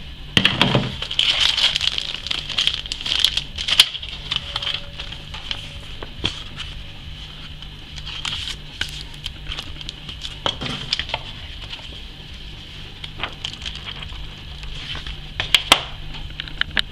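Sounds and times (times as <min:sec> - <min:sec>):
faint hum: 0:00.0 - 0:16.9
paper pages rustling and crackling: 0:00.7 - 0:16.7.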